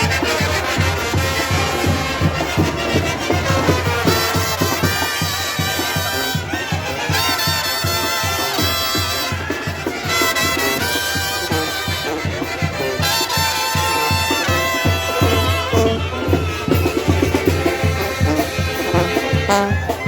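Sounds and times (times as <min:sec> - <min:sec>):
brass band horns playing: 0:00.0 - 0:20.0.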